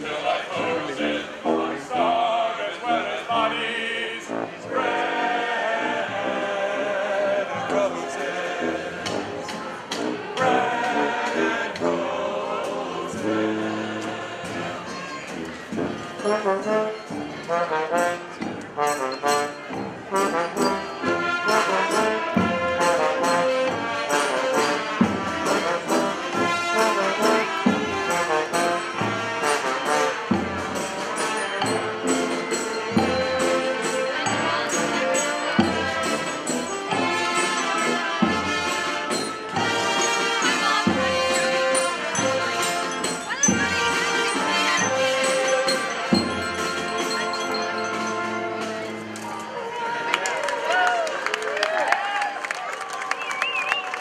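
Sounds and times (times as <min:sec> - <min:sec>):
brass band playing: 0:00.0 - 0:49.8.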